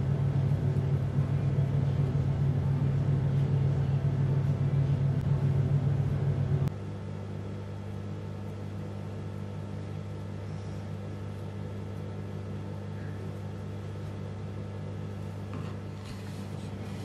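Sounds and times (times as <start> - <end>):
loud appliance hum: 0.0 - 17.0
low electric hum: 0.0 - 17.0.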